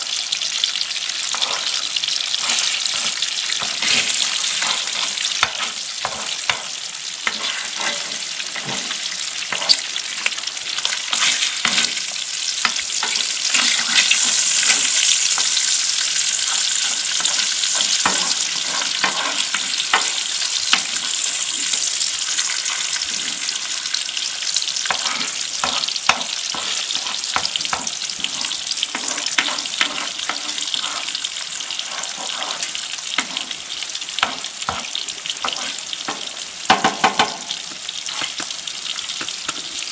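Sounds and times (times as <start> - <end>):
food sizzling in a frying pan: 0.0 - 39.9
metal spoon scraping a pan: 1.2 - 36.4, 38.0 - 38.5.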